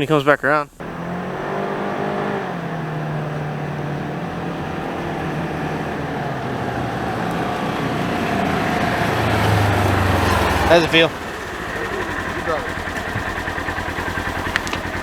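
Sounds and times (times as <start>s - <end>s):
utility vehicle engine running: 0.8s - 15.0s.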